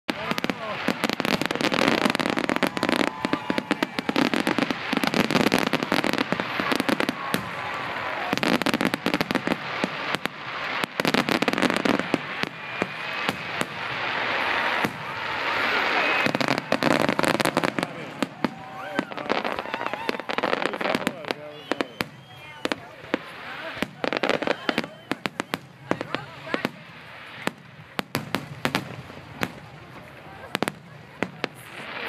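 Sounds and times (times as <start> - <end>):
fireworks barrage: 0.1 - 32.0.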